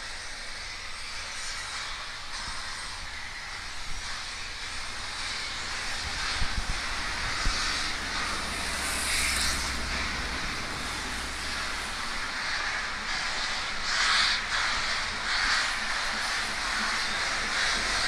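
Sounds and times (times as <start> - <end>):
steam locomotive exhaust beats: 0.0 - 18.0.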